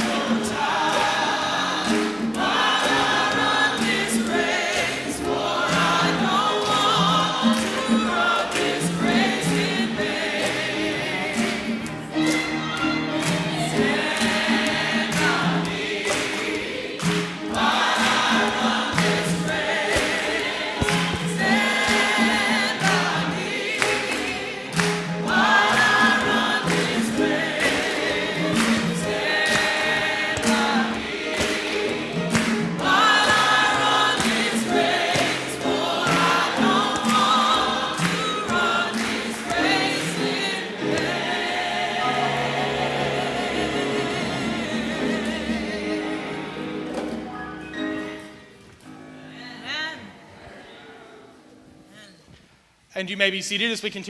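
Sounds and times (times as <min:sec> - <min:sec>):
choir singing a hymn: 0:00.0 - 0:51.8.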